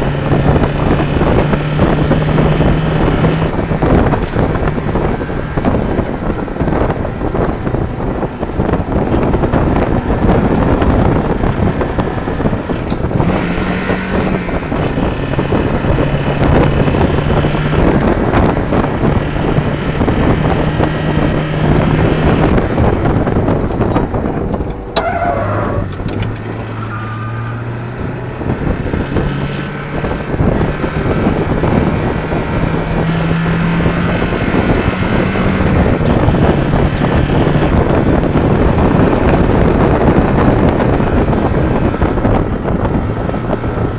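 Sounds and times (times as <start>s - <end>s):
car engine running: 0.0s - 43.9s
wind noise on microphone: 0.0s - 43.9s.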